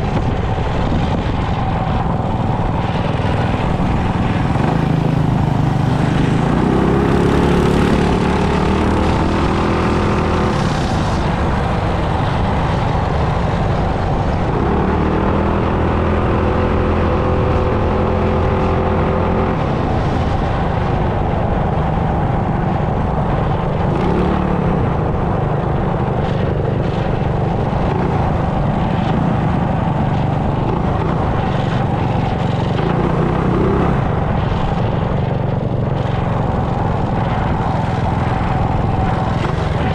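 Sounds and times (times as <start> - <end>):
mini bike engine revving: 0.0 - 20.4, 23.7 - 39.9.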